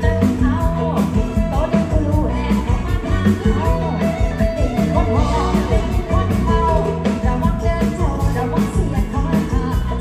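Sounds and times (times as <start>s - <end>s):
live band music: 0.0s - 10.0s
person singing: 0.0s - 10.0s.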